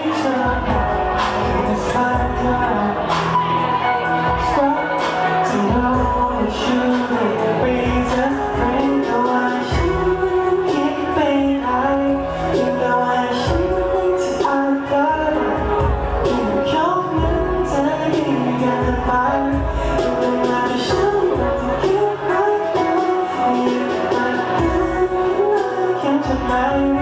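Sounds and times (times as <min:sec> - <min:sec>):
person singing: 0:00.0 - 0:27.0
steady drum beat: 0:00.1 - 0:12.8, 0:13.4 - 0:27.0.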